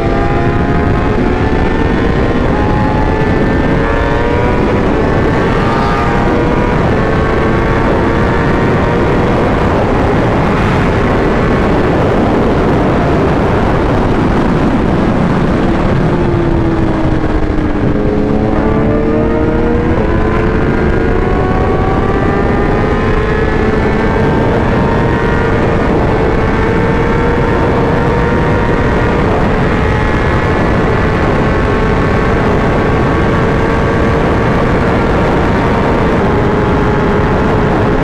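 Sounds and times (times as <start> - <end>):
motorcycle engine running: 0.0 - 38.0
wind rush on microphone: 0.0 - 38.0.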